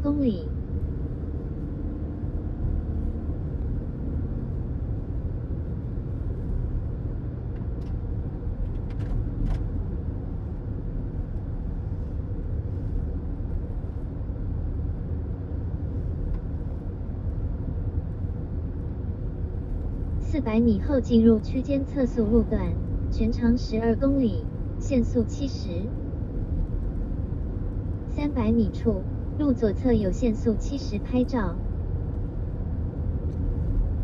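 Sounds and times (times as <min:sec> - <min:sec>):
car engine rumble: 0:00.0 - 0:34.0
tyre road noise: 0:00.0 - 0:34.0.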